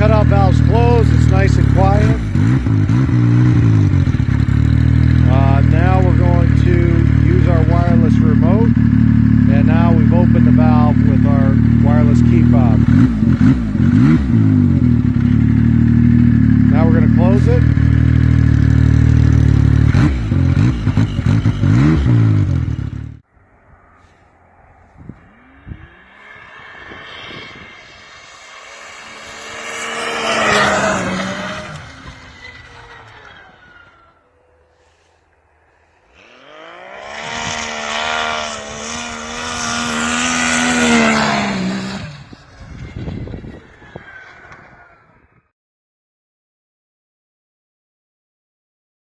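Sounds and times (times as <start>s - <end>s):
snowmobile engine revving: 0.0s - 23.2s, 23.8s - 45.1s.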